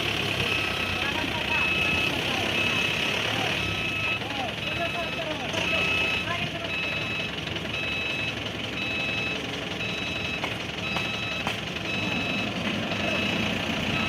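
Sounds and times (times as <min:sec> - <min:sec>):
excavator engine running: 0:00.0 - 0:14.0
travel alarm beeping: 0:00.4 - 0:14.0.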